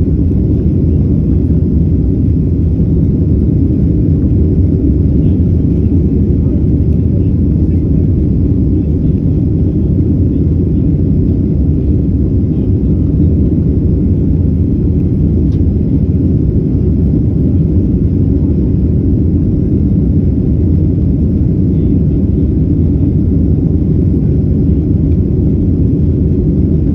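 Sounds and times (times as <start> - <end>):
jet engine rumble in cabin: 0.0 - 26.9.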